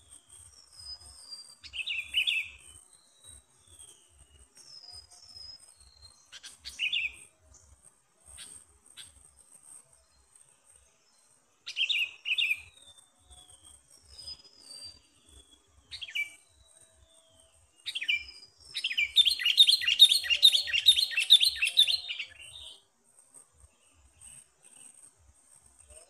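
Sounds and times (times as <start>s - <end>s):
high pulsing insect trill: 0.0s - 26.0s.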